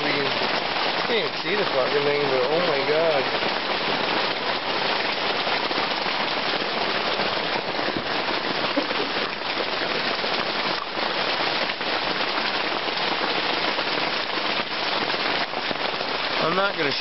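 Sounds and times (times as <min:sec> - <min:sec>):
heavy rain on tent fabric: 0:00.0 - 0:17.0.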